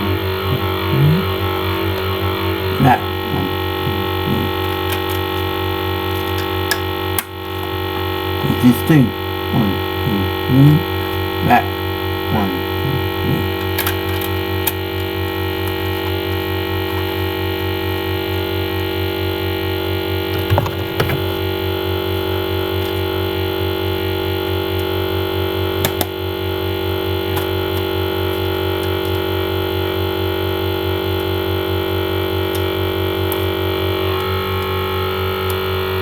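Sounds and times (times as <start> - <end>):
electrical buzzing hum: 0.0 - 36.0.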